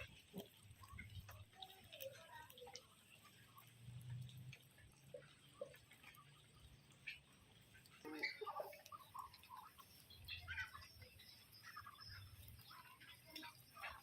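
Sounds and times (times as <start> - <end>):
small clicks and ticks: 0.0 - 14.0.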